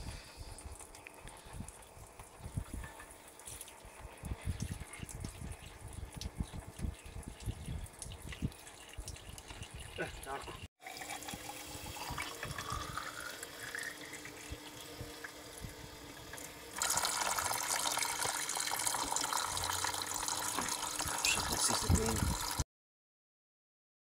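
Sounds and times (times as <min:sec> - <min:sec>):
liquid trickling into bucket: 0:00.6 - 0:22.6.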